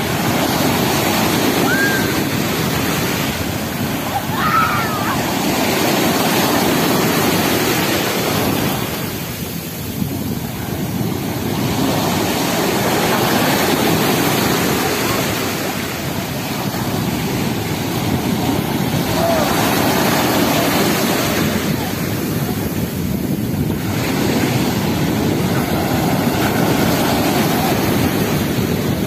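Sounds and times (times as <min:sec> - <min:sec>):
waves breaking on shore: 0:00.0 - 0:29.0.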